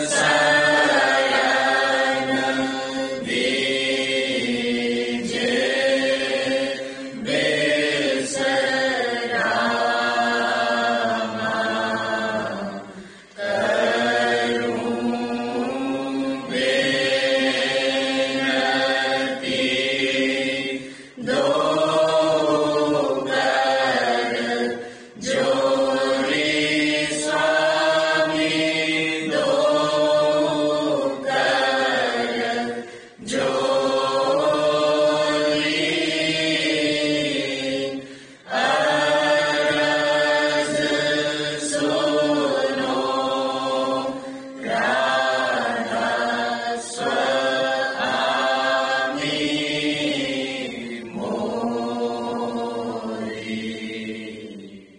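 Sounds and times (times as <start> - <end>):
voices singing a devotional chant: 0.0 - 54.9.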